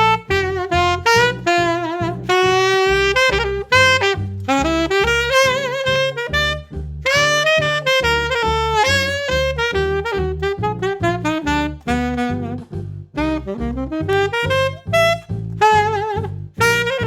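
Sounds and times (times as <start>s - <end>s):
alto saxophone jazz melody: 0.0s - 17.0s
bass line accompaniment: 0.0s - 17.0s.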